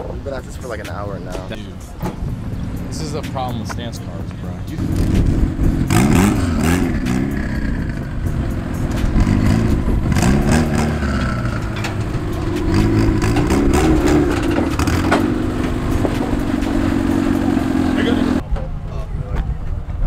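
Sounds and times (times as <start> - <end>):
car engine revving: 0.4 - 18.4.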